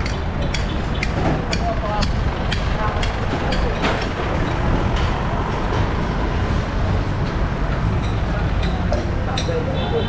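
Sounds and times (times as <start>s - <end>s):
wind rumble on microphone: 0.0s - 9.3s
riding rumble: 0.0s - 10.0s
traffic noise: 0.0s - 10.0s.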